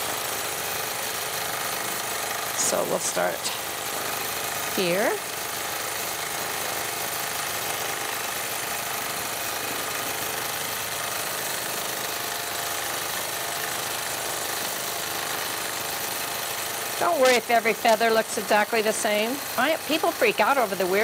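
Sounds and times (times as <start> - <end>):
quilting machine stitching: 0.0 - 21.0.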